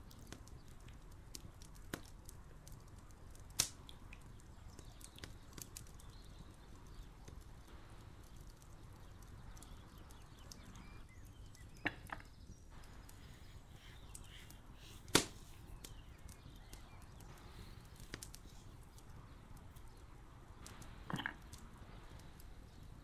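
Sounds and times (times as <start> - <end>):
faint scattered ticks: 0.0 - 23.0.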